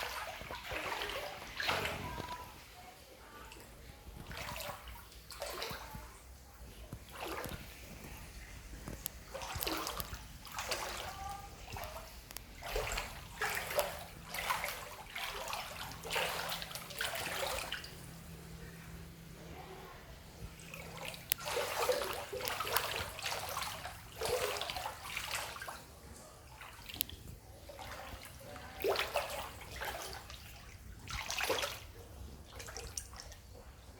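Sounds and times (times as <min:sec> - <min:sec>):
floodwater splashing: 0:00.0 - 0:19.0, 0:20.3 - 0:33.9.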